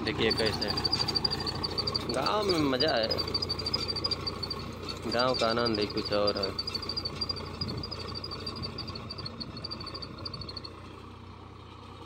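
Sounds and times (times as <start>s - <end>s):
diesel tractor engine running: 0.0s - 12.0s
bird chirping: 0.2s - 10.7s.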